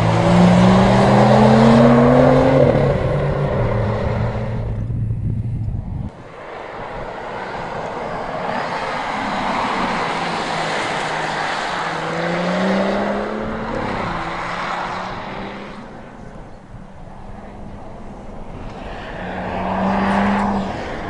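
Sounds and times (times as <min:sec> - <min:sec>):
car driving past at speed: 0:00.0 - 0:04.8, 0:06.5 - 0:16.6, 0:17.6 - 0:21.0.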